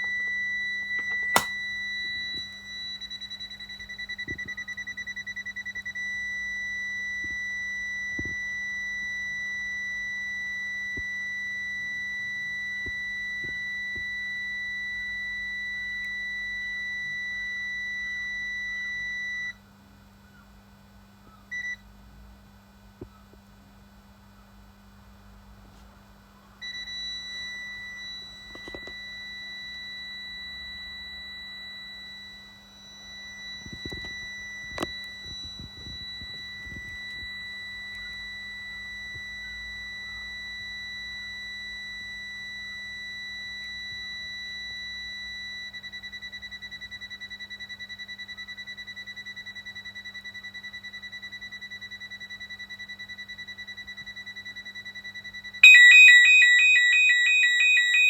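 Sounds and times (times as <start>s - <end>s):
intruder alarm timer tone: 0.0s - 19.6s, 26.6s - 58.0s.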